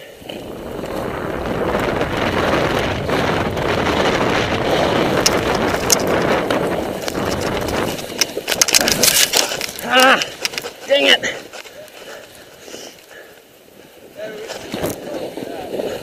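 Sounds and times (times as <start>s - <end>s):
wind rushing over microphone: 0.0s - 11.6s, 13.7s - 16.0s.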